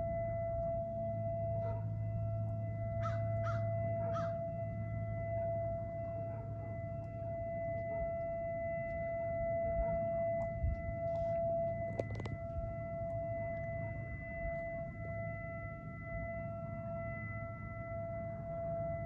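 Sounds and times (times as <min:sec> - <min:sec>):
warning sirens steady tone: 0:00.0 - 0:19.0.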